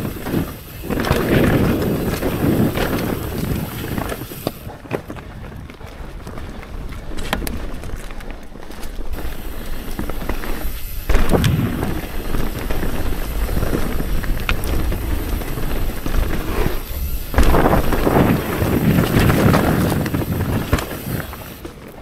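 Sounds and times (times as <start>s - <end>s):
bike clicks and rattles: 0.0s - 22.0s
tyre and wind rush: 0.0s - 22.0s.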